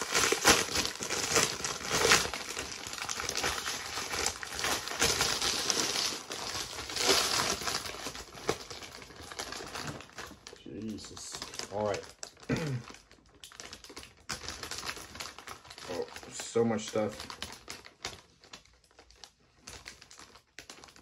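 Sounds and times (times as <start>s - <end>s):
packaging crinkling and tearing: 0.0s - 21.0s.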